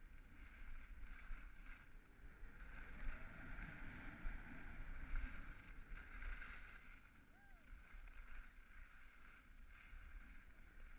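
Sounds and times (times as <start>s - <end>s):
skis scraping over snow: 0.0s - 10.9s
wind rumbling on microphone: 0.0s - 10.9s.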